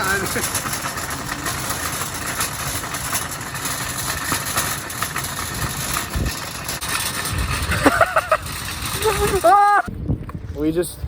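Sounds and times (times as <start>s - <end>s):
shopping cart rattling on pavement: 0.0s - 9.9s.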